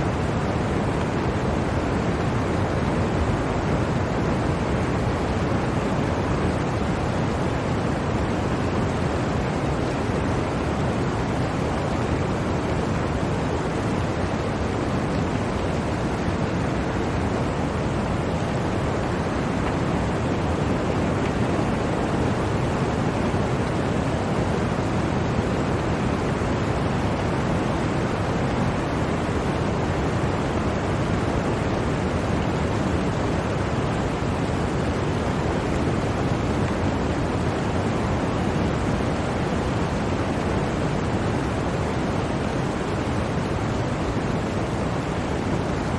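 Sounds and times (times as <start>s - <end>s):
blizzard wind blowing: 0.0s - 45.9s.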